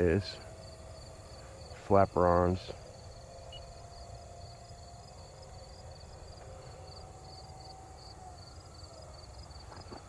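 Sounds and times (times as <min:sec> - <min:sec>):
crickets chirping: 0:00.0 - 0:10.0
distant model jet whine: 0:00.0 - 0:10.0.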